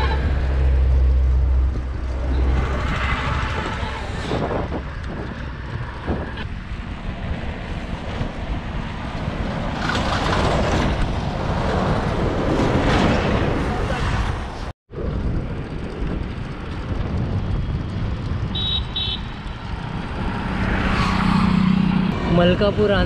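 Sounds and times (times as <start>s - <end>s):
highway traffic: 0.0s - 23.0s
truck engine rumbling: 0.0s - 23.0s
wind noise: 0.0s - 23.0s.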